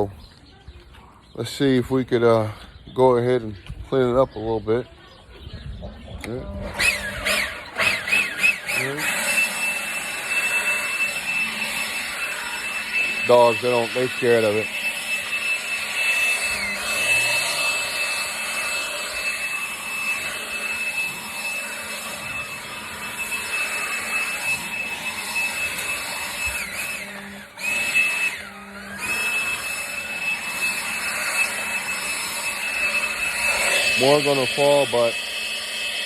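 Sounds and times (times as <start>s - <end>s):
leaf blower whining: 6.2s - 36.0s.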